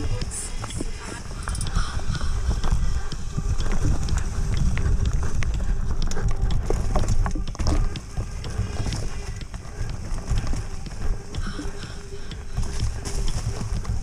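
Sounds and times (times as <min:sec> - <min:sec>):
bike tyres rumbling: 0:00.0 - 0:14.0
leaves and twigs crackling: 0:00.0 - 0:14.0.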